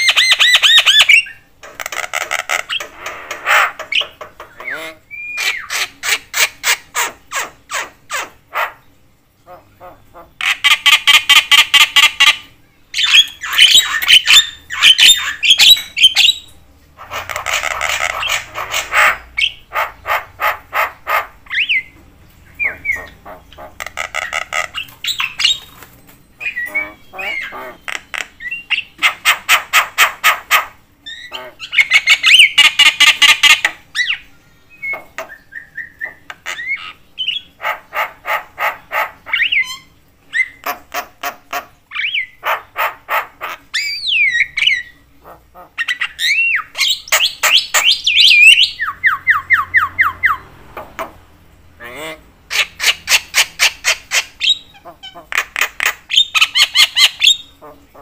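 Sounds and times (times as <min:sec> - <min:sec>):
myna bird calling: 0:00.0 - 0:58.0.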